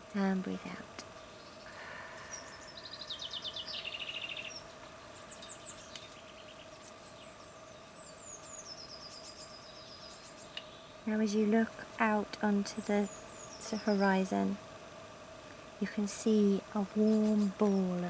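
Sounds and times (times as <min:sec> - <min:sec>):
faint steady background noise: 0:00.0 - 0:18.0
songbirds singing: 0:00.0 - 0:18.0.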